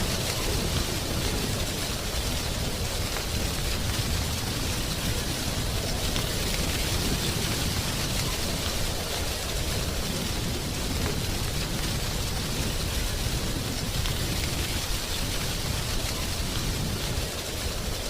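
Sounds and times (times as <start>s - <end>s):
rushing hiss of nature ambience: 0.0s - 18.0s.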